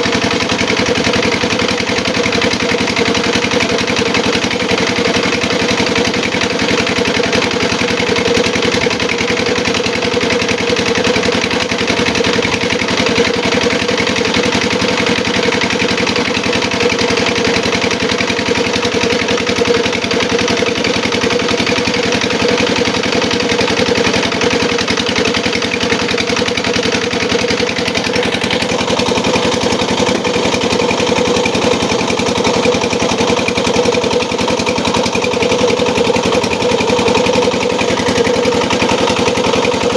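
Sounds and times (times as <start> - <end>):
grinding machine engine drone: 0.0 - 39.9.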